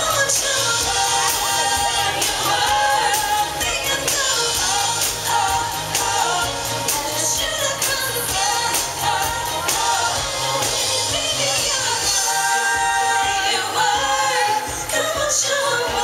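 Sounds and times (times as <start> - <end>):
backing music with steady beat: 0.0 - 16.0
woman singing into microphone: 0.0 - 16.0.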